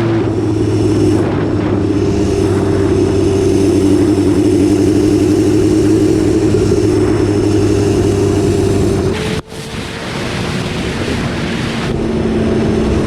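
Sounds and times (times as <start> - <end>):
motorcycle engine drone: 0.0 - 13.0
wind noise: 0.0 - 13.0.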